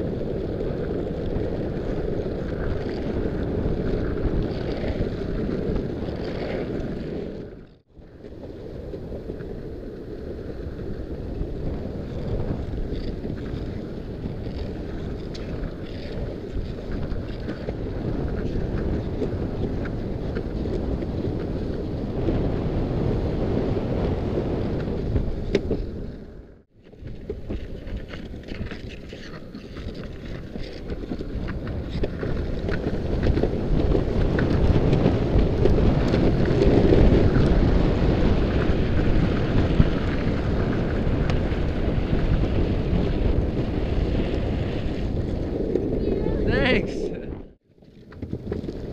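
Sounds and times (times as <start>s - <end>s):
wind buffeting microphone: 0.0s - 47.6s
longboard wheels rolling on asphalt: 0.0s - 48.9s.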